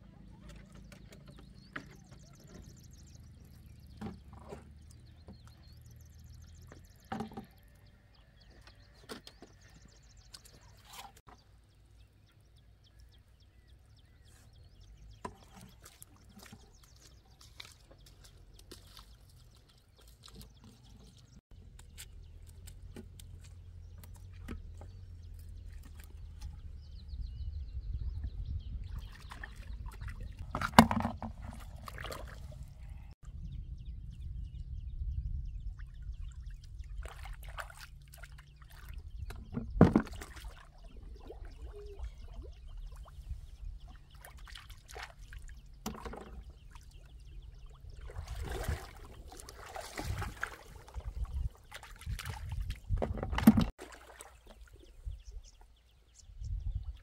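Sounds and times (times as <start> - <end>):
water splashing and trickling: 0.1 - 33.2, 35.6 - 57.0.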